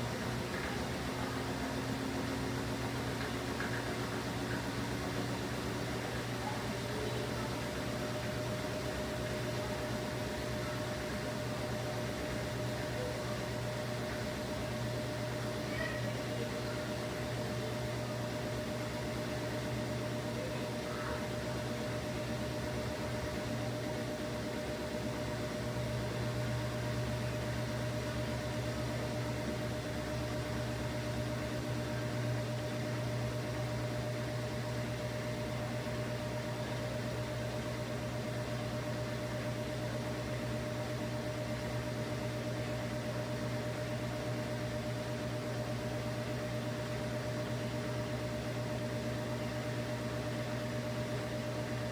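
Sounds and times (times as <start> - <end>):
thin steady whine: 0.0 - 51.9
washing machine humming: 0.0 - 51.9.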